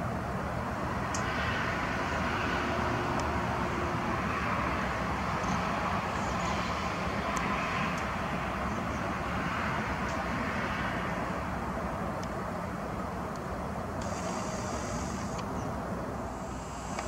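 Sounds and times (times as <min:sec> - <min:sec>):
distant traffic roar: 0:00.0 - 0:17.0.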